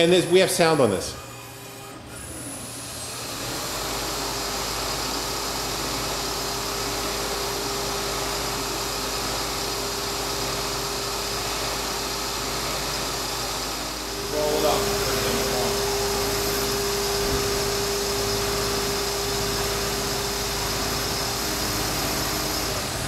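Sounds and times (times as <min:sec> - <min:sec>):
machine hum: 0:00.0 - 0:23.0
mid-pitched machine whine: 0:00.0 - 0:23.0.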